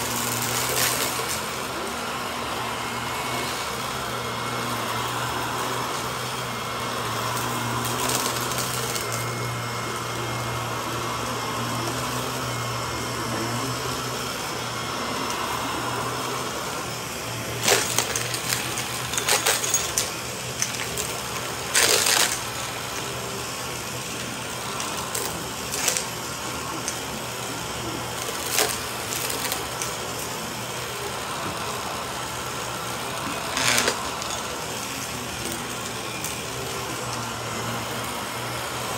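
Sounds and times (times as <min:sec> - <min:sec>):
grit crackling in vacuum: 0:00.0 - 0:38.9
vacuum cleaner running: 0:00.0 - 0:38.9.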